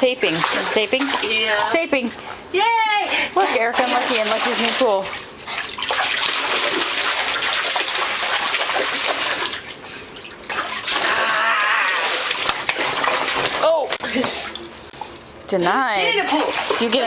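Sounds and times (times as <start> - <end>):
water splashing in a pool: 0.0 - 2.0, 3.2 - 15.2, 16.0 - 17.0
hands slapping water: 0.2 - 1.8, 3.8 - 15.2, 16.3 - 17.0.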